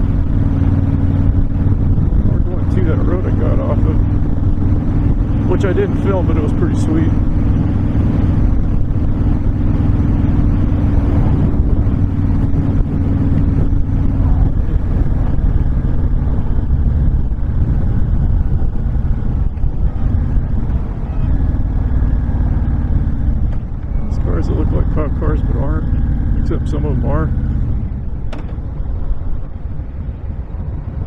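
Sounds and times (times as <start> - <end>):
motorcycle engine running: 0.0 - 31.0
wind rush on microphone: 0.0 - 31.0.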